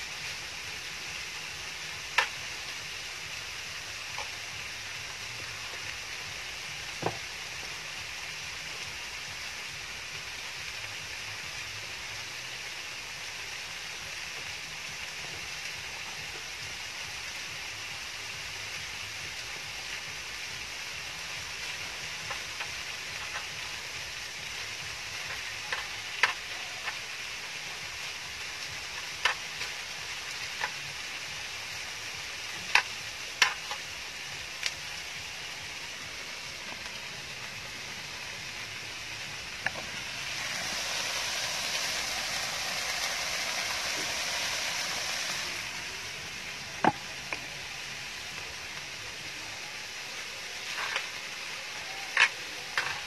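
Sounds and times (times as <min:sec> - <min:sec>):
fried rice sizzling in pan: 0:00.0 - 0:53.0.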